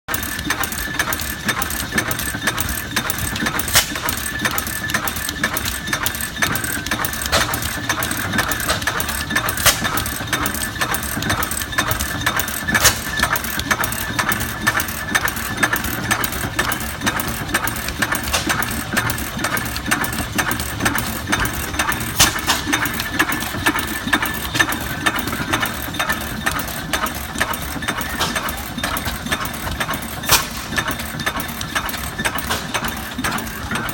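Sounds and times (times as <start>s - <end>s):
gas engine clattering: 0.1s - 33.9s
loud sharp engine cracks: 0.1s - 33.9s.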